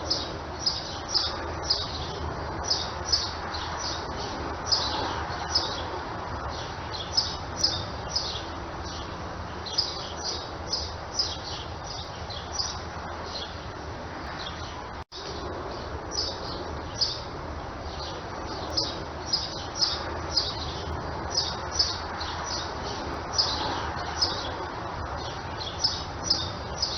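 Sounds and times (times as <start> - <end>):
outdoor background hiss: 0.0 - 26.9
small birds chirping: 0.0 - 26.9.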